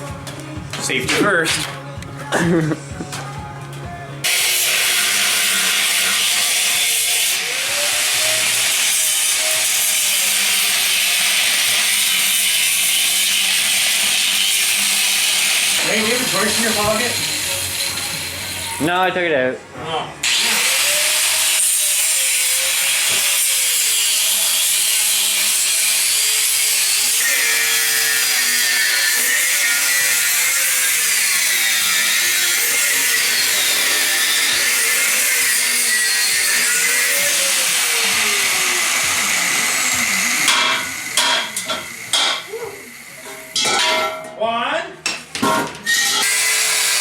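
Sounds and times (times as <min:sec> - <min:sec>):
angle grinder grinding steel: 0:04.2 - 0:18.9, 0:20.2 - 0:44.2, 0:45.8 - 0:47.0.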